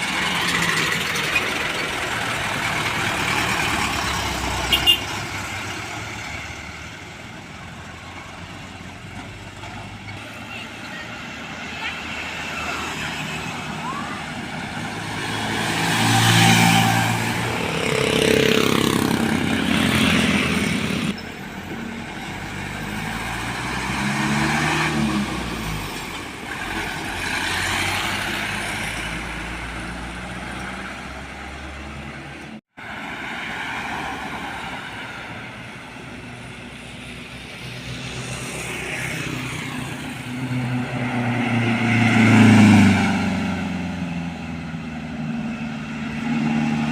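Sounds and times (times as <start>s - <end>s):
trucks and traffic passing: 0.0s - 46.9s.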